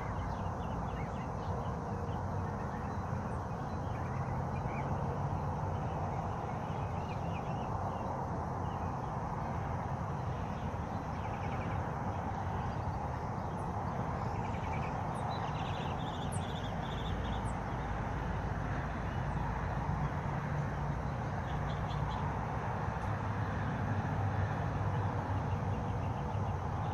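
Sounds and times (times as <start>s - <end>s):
songbirds chirping and trilling: 0.0s - 26.9s.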